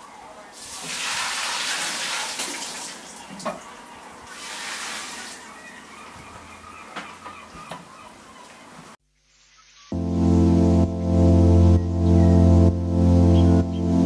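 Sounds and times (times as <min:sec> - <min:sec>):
outdoor ambient hiss: 0:00.0 - 0:13.8.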